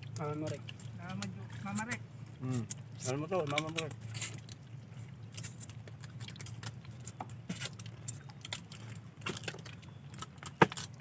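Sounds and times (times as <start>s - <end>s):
crab shells cracking: 0.0s - 11.0s.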